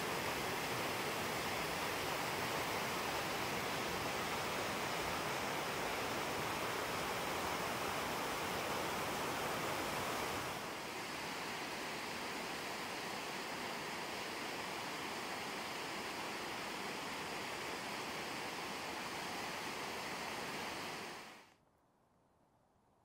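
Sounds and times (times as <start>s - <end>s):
stream rushing over rocks: 0.0s - 21.4s.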